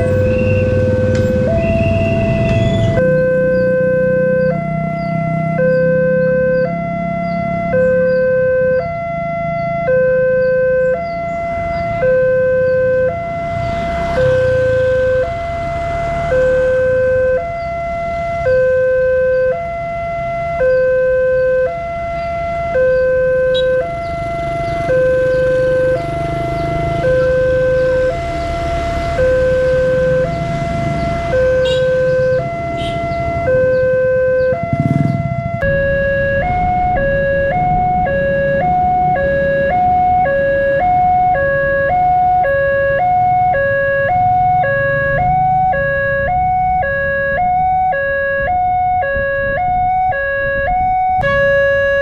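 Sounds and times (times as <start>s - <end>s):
two-tone crossing alarm: 0.0s - 52.0s.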